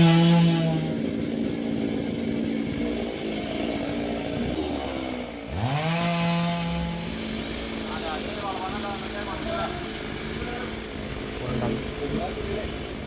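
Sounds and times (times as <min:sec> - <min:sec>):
chainsaw revving and idling: 0:00.0 - 0:13.0.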